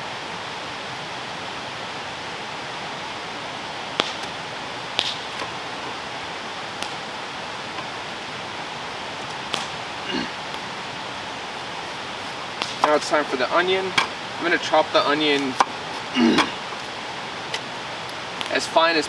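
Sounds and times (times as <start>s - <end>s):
steady rushing background noise: 0.0s - 19.0s.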